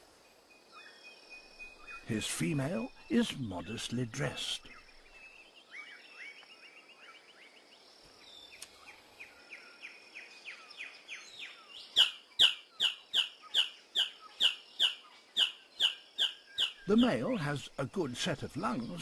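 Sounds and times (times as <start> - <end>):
forest hiss: 0.0 - 19.0.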